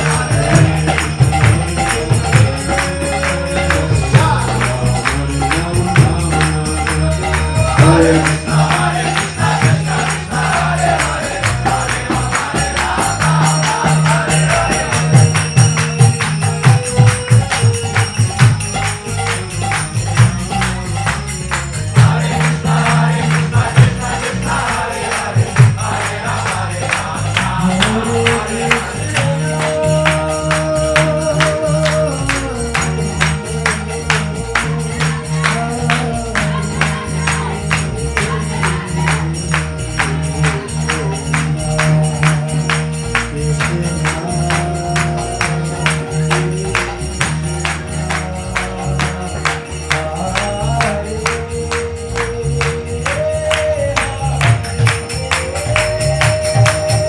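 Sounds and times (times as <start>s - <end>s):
group singing: 0.0s - 17.6s, 21.5s - 57.0s
jingling hand percussion: 0.0s - 57.0s.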